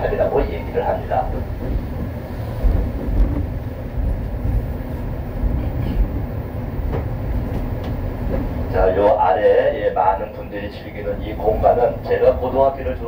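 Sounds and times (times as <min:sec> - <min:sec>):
train rumbling on elevated track: 0:00.0 - 0:13.0.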